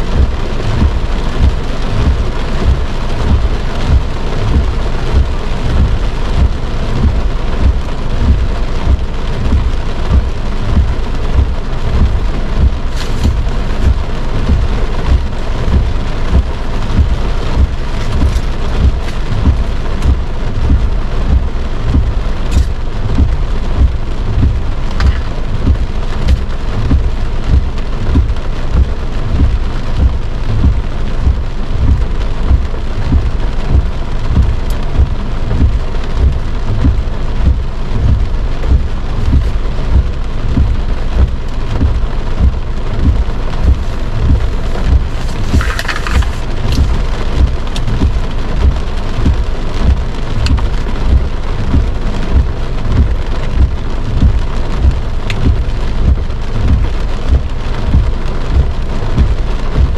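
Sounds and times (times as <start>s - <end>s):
heavy rain drumming on car roof: 0.0s - 59.9s.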